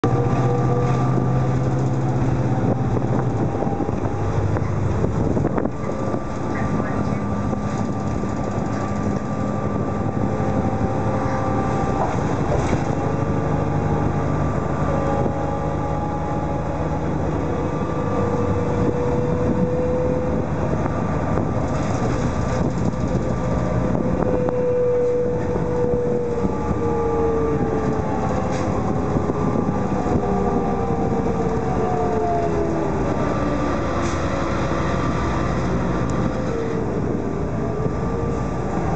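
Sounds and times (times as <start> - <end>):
bus engine and road rumble: 0.0 - 38.9
bus whine rising and falling: 0.0 - 38.9.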